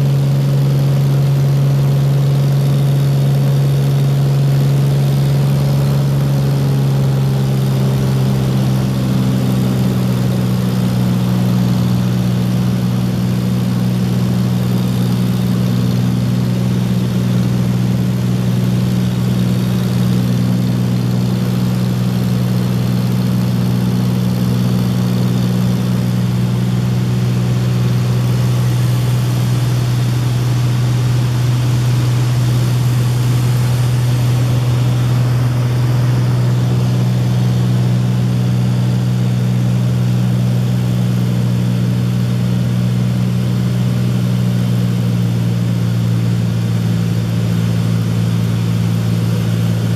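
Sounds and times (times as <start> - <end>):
plane engine and propeller droning: 0.0 - 49.9.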